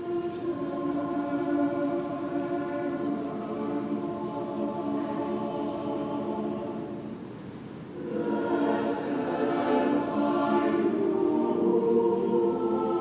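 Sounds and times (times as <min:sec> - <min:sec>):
mixed choir singing: 0:00.0 - 0:07.3, 0:07.9 - 0:13.0.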